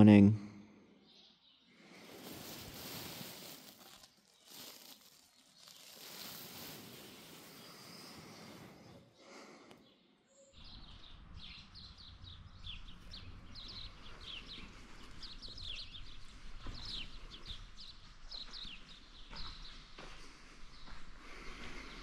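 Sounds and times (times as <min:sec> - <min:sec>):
small birds chirping: 0:00.9 - 0:22.0.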